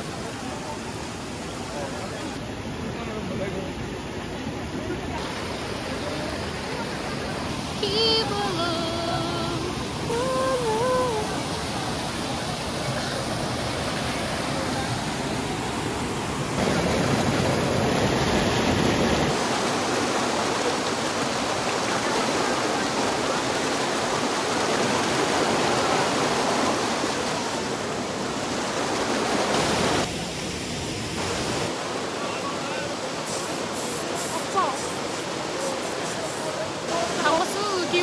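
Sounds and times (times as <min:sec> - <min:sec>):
stream and waterfall rushing: 0:00.0 - 0:38.0.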